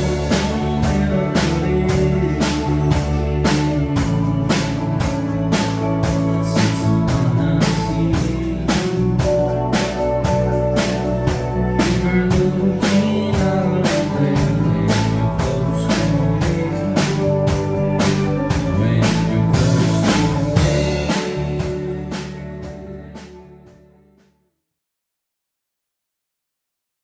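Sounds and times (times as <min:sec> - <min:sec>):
drum kit beat: 0:00.0 - 0:23.4
bass and electric guitar: 0:00.0 - 0:24.4.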